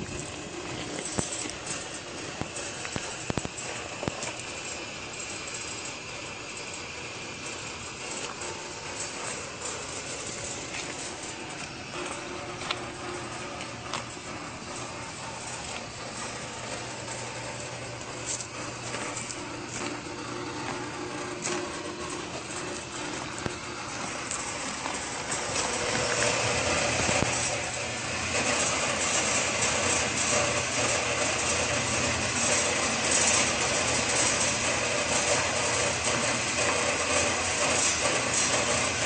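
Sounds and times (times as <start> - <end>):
electric motor humming: 0.0 - 39.0.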